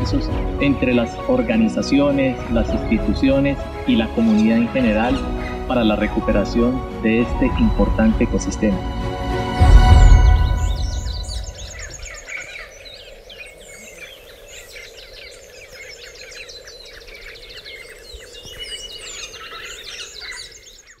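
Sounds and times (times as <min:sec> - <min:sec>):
small birds chirping: 0:00.0 - 0:09.0, 0:09.6 - 0:21.0.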